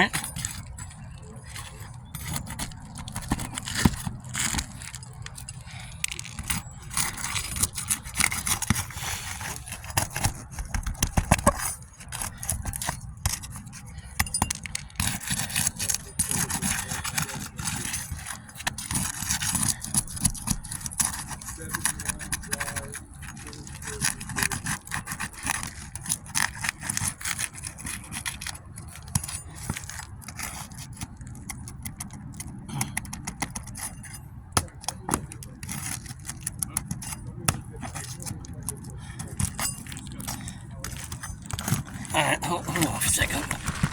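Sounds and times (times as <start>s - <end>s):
tool prying roof shingles: 0.0s - 43.9s.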